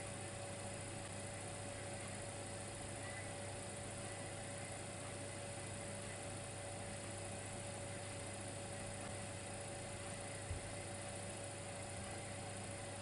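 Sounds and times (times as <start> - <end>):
electric heater humming: 0.0 - 13.0.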